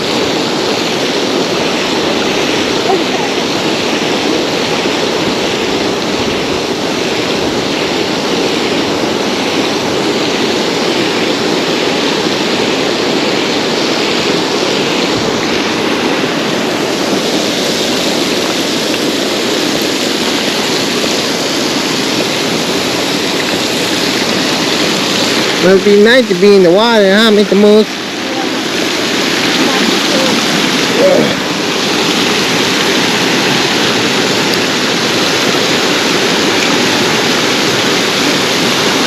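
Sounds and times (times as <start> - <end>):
fast-flowing stream water: 0.0 - 39.0.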